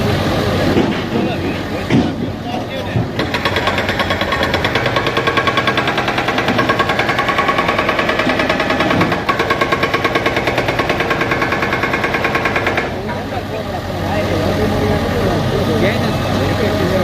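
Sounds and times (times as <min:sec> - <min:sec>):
engine knocking rhythmically: 0:00.0 - 0:17.0.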